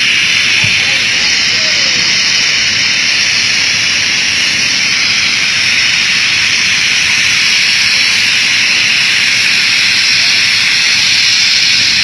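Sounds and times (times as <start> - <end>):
loud high-pitched hiss: 0.0 - 12.0.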